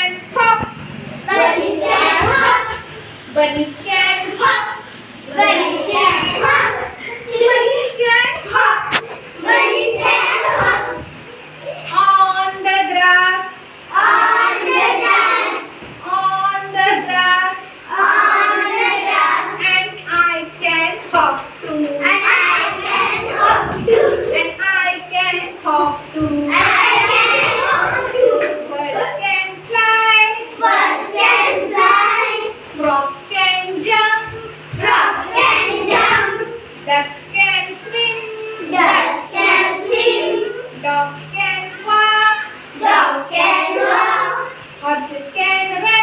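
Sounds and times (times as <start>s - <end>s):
children and woman singing: 0.0s - 46.0s.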